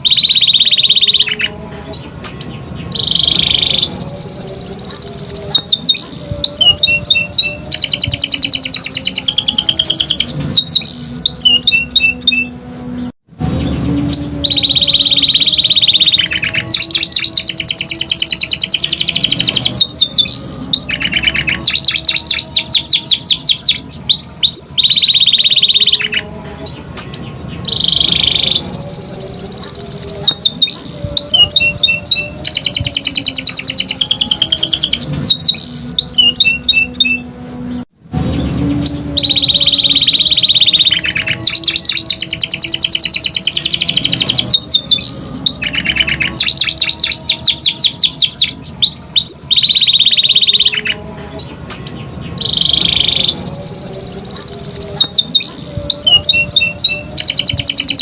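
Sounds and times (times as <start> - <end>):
canary singing trills: 0.0 - 37.8, 38.4 - 58.0.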